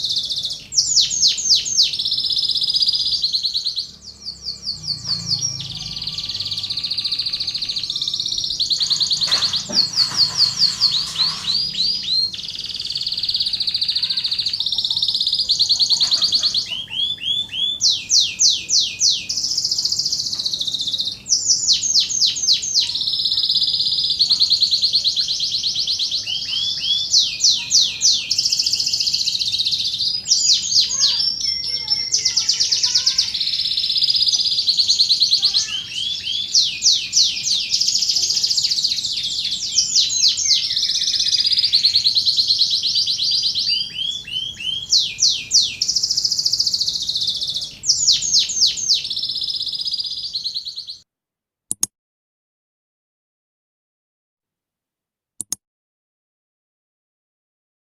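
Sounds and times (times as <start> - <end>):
canary singing fast trills: 0.0 - 51.0.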